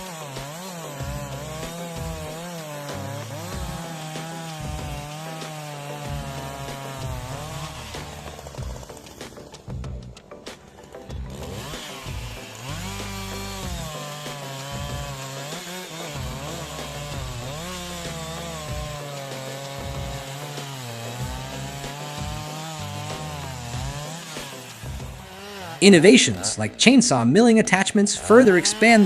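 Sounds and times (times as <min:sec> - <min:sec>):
chainsaw cutting wood: 0:00.0 - 0:26.9, 0:27.8 - 0:29.0.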